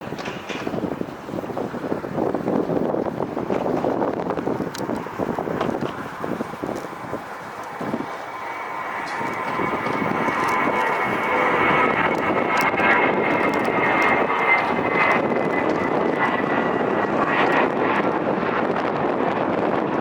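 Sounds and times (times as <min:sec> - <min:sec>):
jet airliner taking off: 0:00.0 - 0:20.0.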